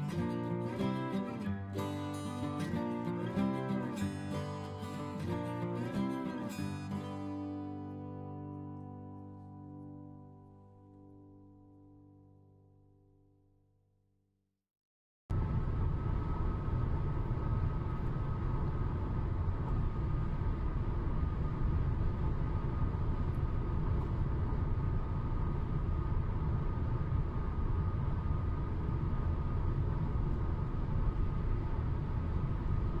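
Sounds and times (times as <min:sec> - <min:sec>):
faint steady whine: 0:00.0 - 0:11.7, 0:15.3 - 0:33.0.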